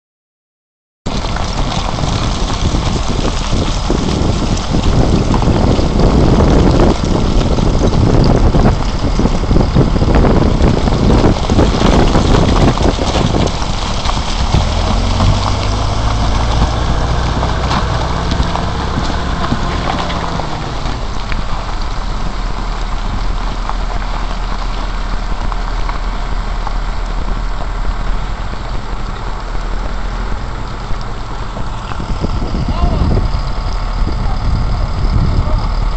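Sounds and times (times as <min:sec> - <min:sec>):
bulldozer diesel engine: 0:01.1 - 0:35.9
rocks clattering down slope: 0:01.1 - 0:35.9.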